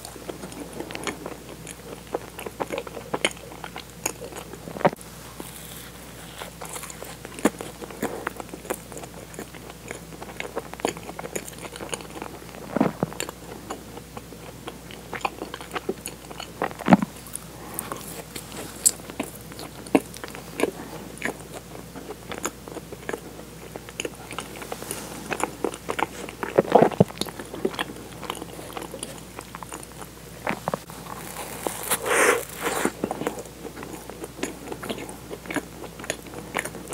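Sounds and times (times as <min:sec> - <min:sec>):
mouth chewing doughnuts: 0:00.0 - 0:36.9.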